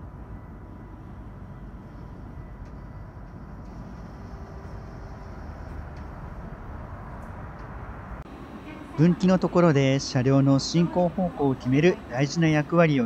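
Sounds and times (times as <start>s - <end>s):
faint mechanical whine: 0.0s - 13.0s
station rumble: 0.0s - 13.0s.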